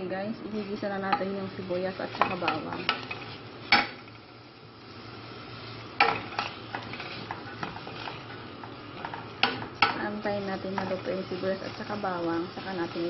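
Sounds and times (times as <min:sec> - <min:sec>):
onion and garlic sizzling: 0:00.0 - 0:13.0.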